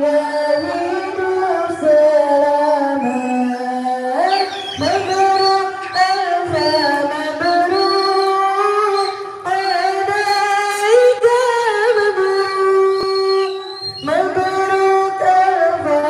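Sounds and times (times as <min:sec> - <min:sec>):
person singing in high voice: 0:00.0 - 0:16.0.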